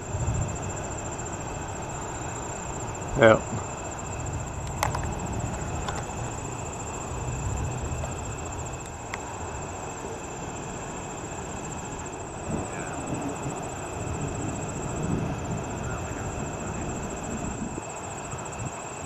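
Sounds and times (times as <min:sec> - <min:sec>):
crickets trilling: 0:00.0 - 0:19.0
low continuous rumble: 0:00.0 - 0:19.0.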